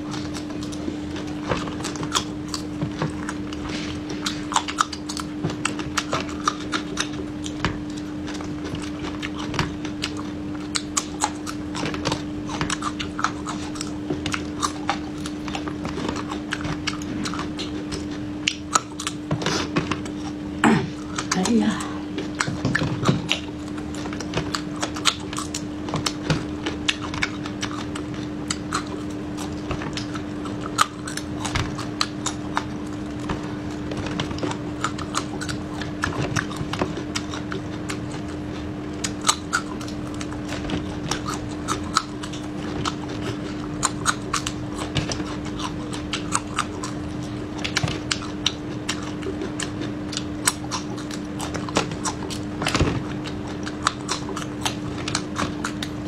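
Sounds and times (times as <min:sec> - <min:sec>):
crunching chili peppers: 0:00.0 - 0:56.0
steady low hum: 0:00.0 - 0:56.0.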